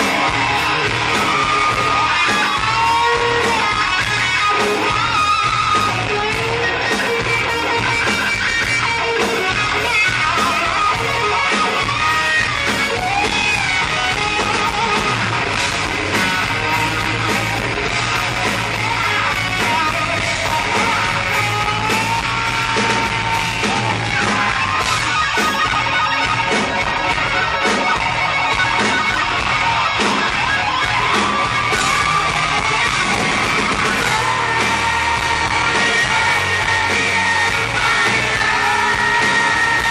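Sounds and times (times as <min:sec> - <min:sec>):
drums and bass: 0:00.0 - 0:39.9
electric guitar solo: 0:00.0 - 0:39.9.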